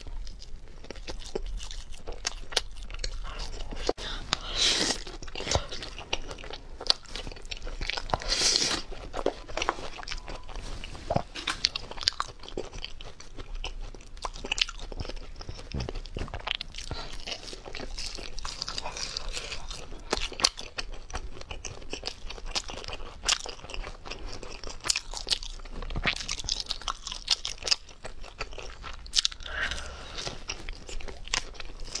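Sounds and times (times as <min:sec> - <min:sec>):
crunchy food chewing: 0:00.0 - 0:32.0.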